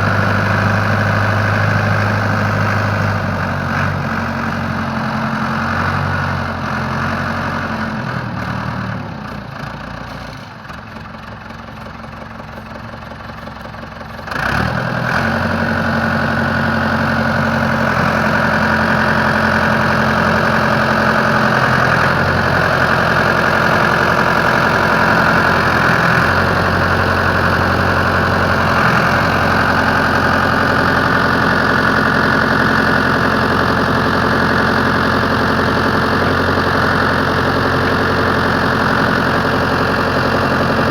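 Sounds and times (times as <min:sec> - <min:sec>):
diesel engine revving: 0:00.0 - 0:10.6, 0:14.2 - 0:40.9.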